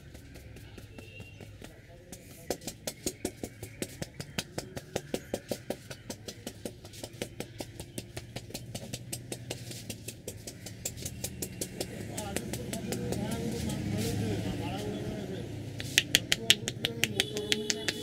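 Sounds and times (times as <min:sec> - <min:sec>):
hands slapping a head: 0:00.0 - 0:14.2, 0:15.8 - 0:18.0
low hum of street traffic: 0:00.0 - 0:18.0.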